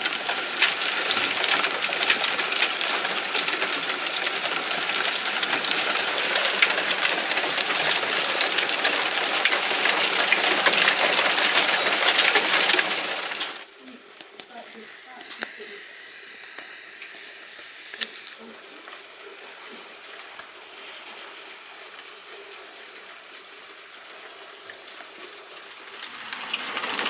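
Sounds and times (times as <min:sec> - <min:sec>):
hail pattering on cars and street: 0:00.0 - 0:15.8, 0:18.4 - 0:27.0.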